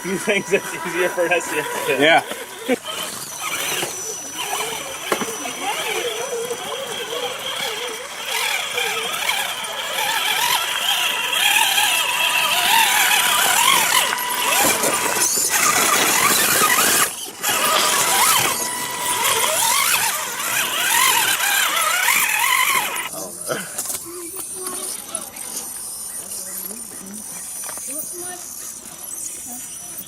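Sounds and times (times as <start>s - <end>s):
electric motor and gear whine: 0.0s - 30.0s.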